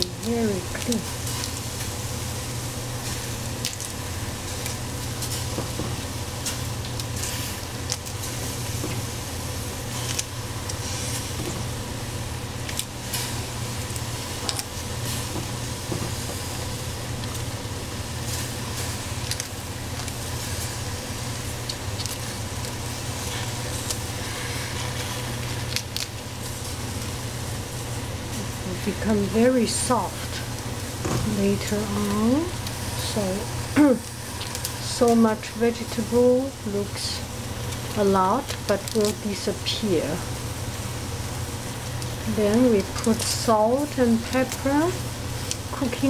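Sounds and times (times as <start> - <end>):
vegetables sizzling in oil: 0.0 - 46.0.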